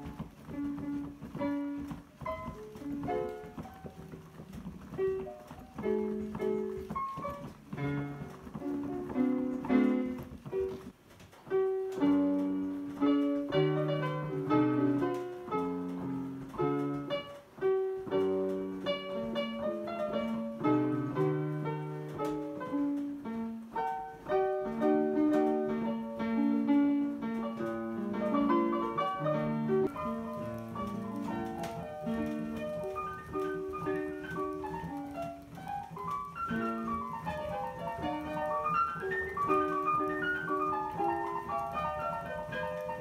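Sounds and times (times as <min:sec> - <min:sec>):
synthesizer piano notes and chords: 0:00.0 - 0:43.0.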